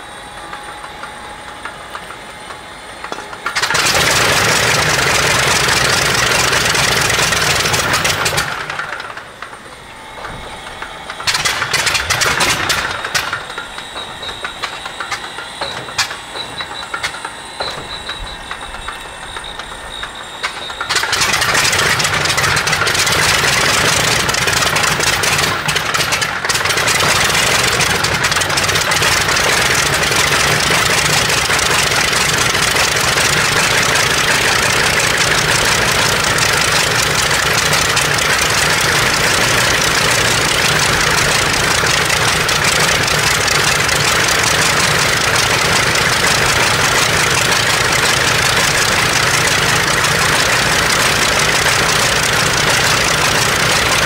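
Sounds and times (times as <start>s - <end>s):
radial engine cranking and running: 0.0s - 54.0s.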